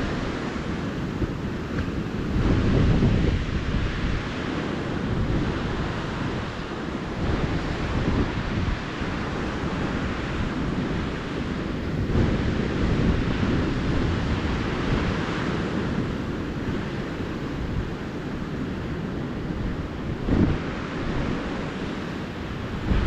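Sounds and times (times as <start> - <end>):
ocean surf on sandy beach: 0.0 - 23.0
wind buffeting microphone: 0.0 - 23.0.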